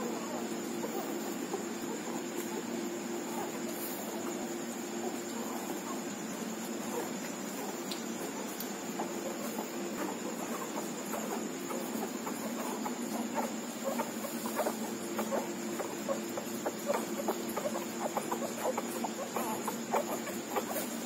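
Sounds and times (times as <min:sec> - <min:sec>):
puppies suckling: 0:00.0 - 0:21.0
small squeaks: 0:00.0 - 0:21.0
steady low hum: 0:00.0 - 0:21.0.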